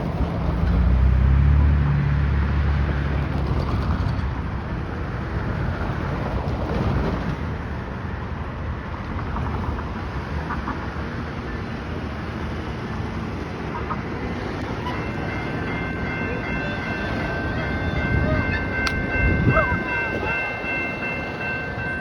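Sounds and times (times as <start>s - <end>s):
traffic noise: 0.0s - 22.0s
vehicle engine rumble: 0.0s - 22.0s.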